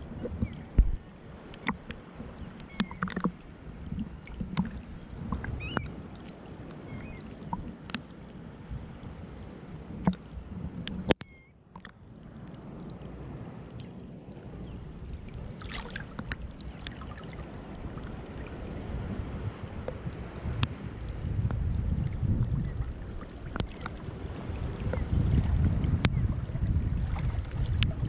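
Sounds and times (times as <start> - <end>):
sea water sloshing and splashing: 0.0 - 28.0.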